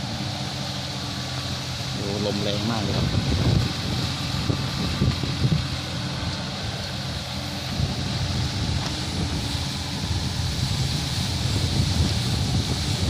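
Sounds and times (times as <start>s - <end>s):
diesel engine running: 0.0s - 13.0s
wind buffeting microphone: 0.0s - 13.0s.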